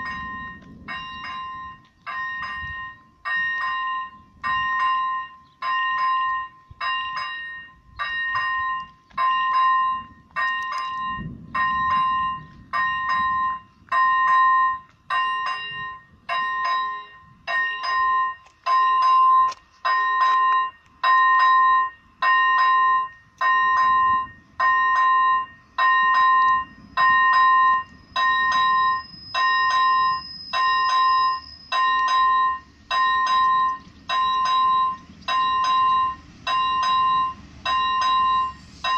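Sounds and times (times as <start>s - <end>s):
level crossing bell ringing: 0.0s - 38.9s.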